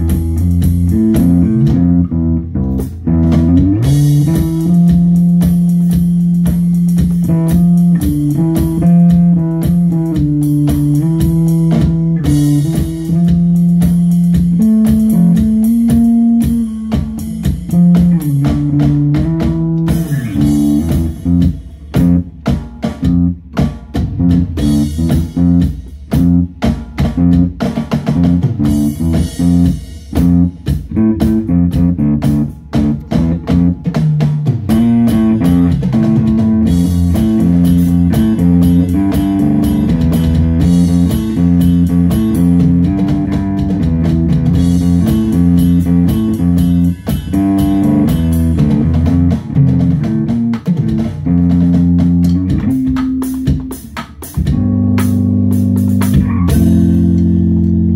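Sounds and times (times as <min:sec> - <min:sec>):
drum kit: 0:00.0 - 0:57.9
guitar riff: 0:00.0 - 0:57.9.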